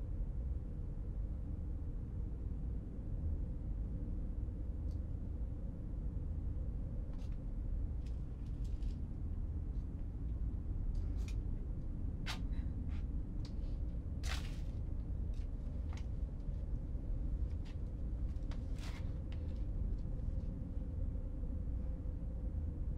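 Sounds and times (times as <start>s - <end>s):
faint hum: 0.0s - 22.9s.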